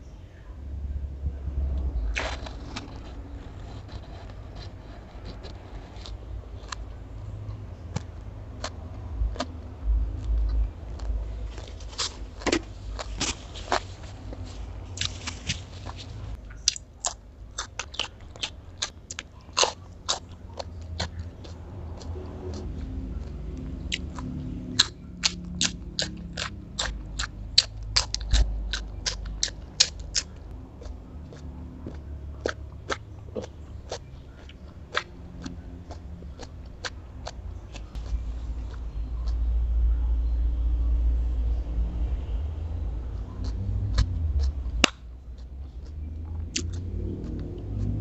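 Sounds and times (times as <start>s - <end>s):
low rumble: 0.0s - 16.7s, 19.9s - 48.0s
chewing crunchy cucumber: 1.5s - 48.0s.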